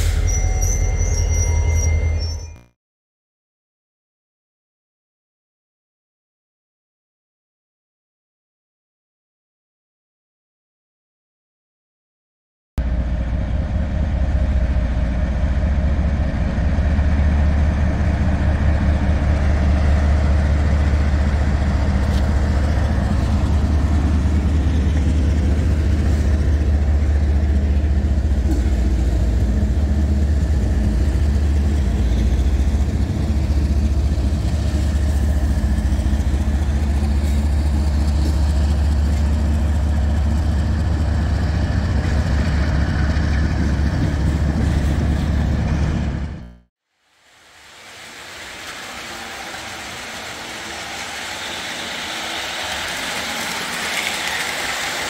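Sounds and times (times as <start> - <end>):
diesel locomotive engine rumbling: 0.0 - 2.7, 12.8 - 46.7, 47.5 - 55.0.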